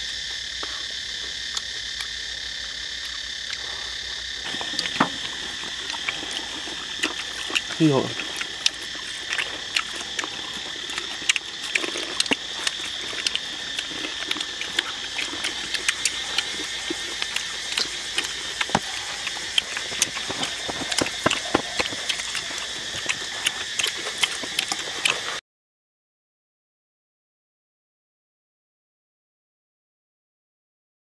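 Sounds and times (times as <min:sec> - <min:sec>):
fried crickets crackling and rustling: 0:00.0 - 0:25.4
steady high-pitched drone: 0:00.0 - 0:25.4.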